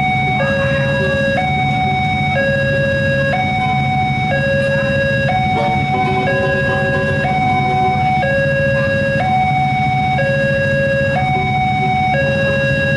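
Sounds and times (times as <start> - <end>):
level crossing alarm two-tone: 0.0 - 12.9
motorcycle engines idling: 0.0 - 12.9.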